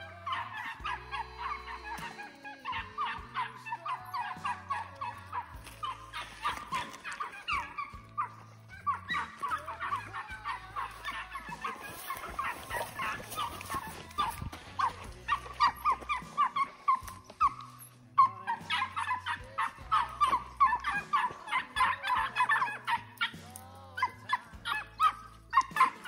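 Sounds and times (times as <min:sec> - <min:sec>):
hounds baying: 0:00.0 - 0:26.0.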